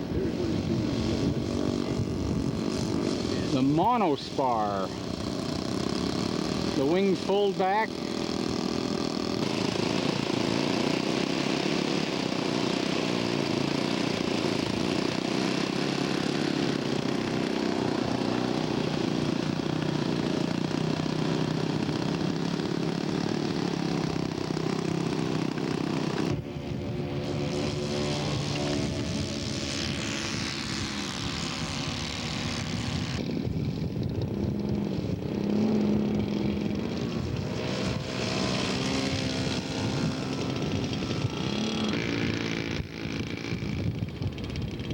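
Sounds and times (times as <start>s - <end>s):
model aircraft engine running: 0.0s - 44.9s.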